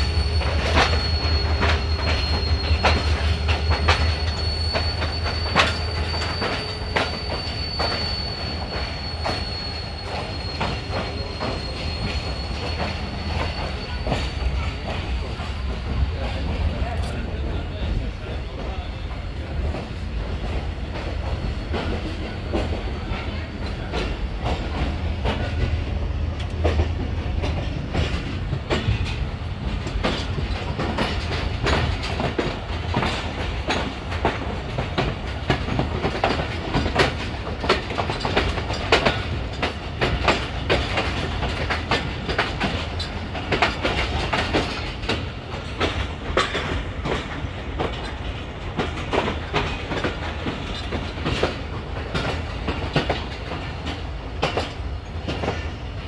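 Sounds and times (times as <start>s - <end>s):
wheels clicking over rail joints: 0.0s - 17.5s, 19.6s - 56.0s
train running gear rumble: 0.0s - 56.0s.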